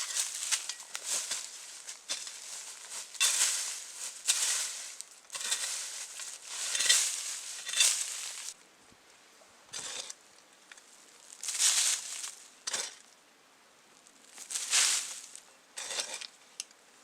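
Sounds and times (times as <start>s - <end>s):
rustling and crunching: 0.0s - 8.6s, 9.7s - 13.1s, 14.0s - 16.3s.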